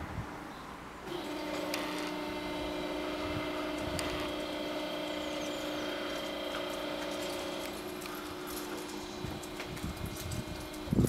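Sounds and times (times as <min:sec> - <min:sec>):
barrier motor humming: 0:01.0 - 0:11.0.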